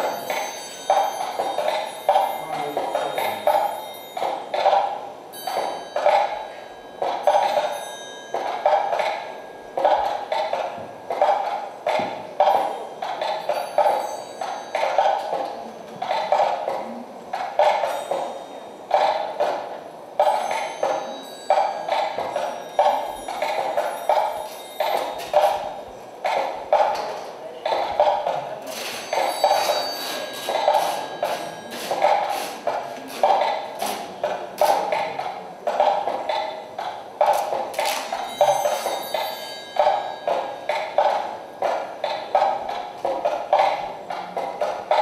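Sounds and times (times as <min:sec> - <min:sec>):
rhythmic percussive pulses: 0:00.0 - 0:45.0.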